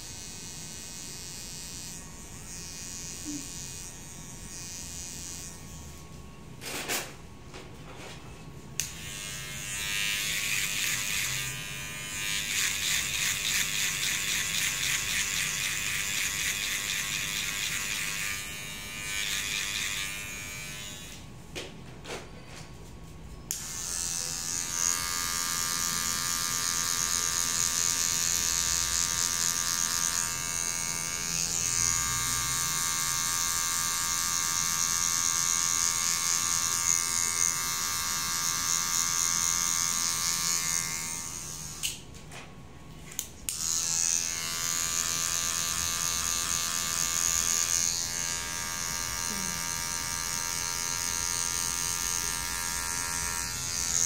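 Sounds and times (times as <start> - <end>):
electric hair clipper buzzing: 0.0 - 7.2, 8.8 - 21.3, 23.5 - 42.1, 43.1 - 54.0.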